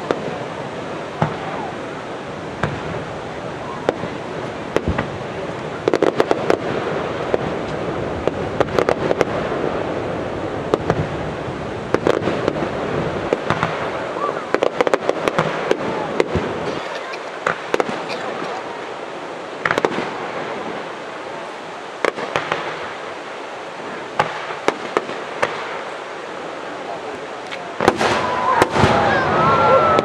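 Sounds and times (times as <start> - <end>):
fireworks bangs and crackles: 0.0 - 30.0
steady background noise: 0.0 - 30.0.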